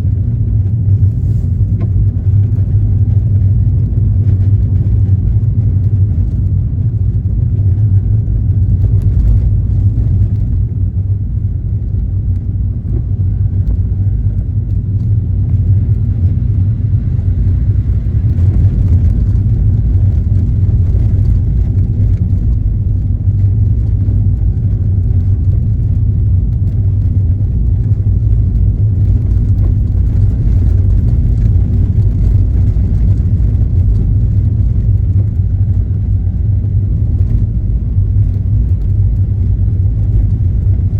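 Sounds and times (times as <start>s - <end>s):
car engine rumbling: 0.0s - 40.9s
tyre road noise: 0.0s - 40.9s.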